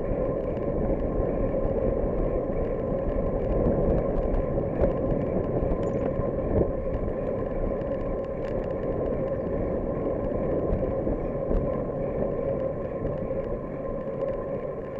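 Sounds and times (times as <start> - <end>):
bicycle tyres rumbling: 0.0 - 14.9
constant hum: 0.0 - 14.9
wind: 0.0 - 14.9
small ticks and rattles: 0.1 - 14.9.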